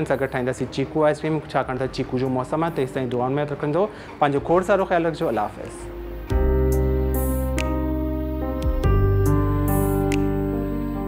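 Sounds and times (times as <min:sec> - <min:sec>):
soft instrumental music chords: 0:02.0 - 0:11.0.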